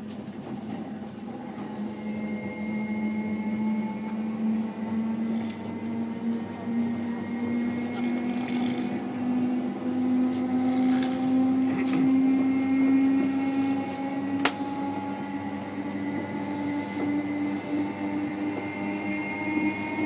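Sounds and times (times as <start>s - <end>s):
train carriage humming: 0.0s - 20.0s.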